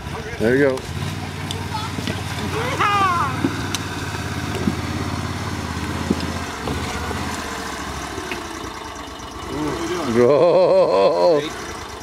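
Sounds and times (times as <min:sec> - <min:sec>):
atv engine at low throttle: 0:00.0 - 0:12.0.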